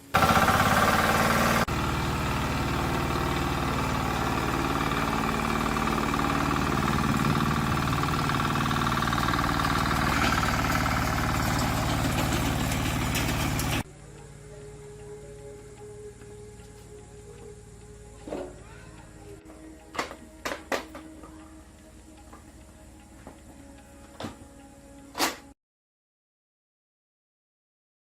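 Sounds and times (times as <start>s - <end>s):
tractor engine running: 0.0s - 25.1s.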